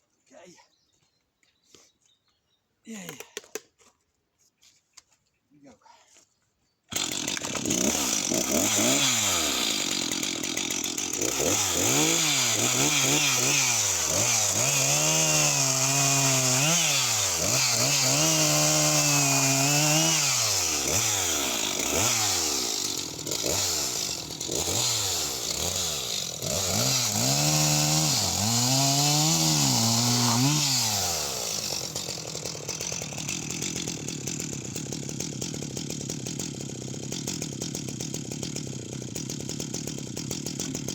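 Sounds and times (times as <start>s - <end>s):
chainsaw cutting wood: 6.9s - 40.9s
chainsaw idling: 6.9s - 40.9s.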